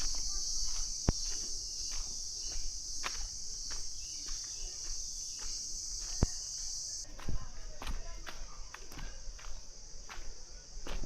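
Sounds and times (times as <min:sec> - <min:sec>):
footsteps on trail: 0:00.0 - 0:11.0
forest insects chorus: 0:00.0 - 0:11.0.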